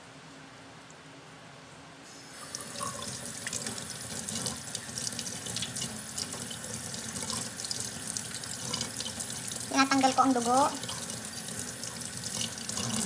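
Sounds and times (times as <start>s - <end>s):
water splashing into steel sink: 2.4s - 13.0s.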